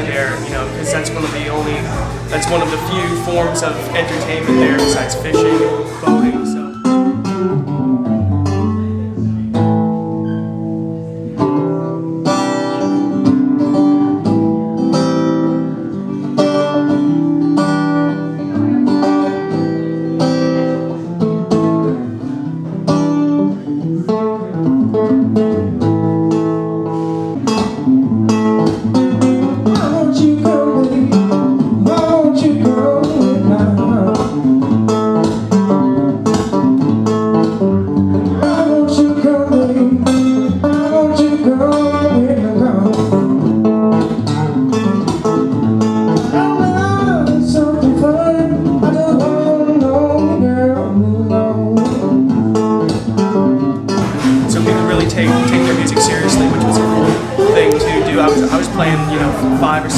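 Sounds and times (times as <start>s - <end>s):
blues guitar playing: 0.0s - 59.9s.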